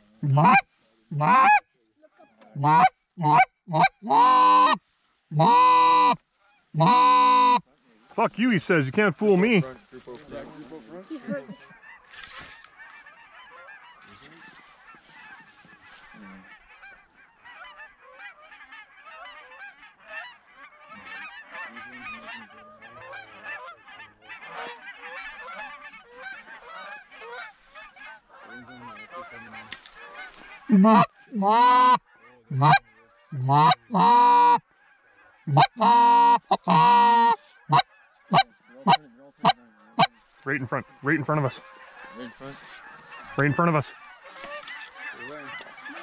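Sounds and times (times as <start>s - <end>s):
geese honking: 0.0s - 46.0s.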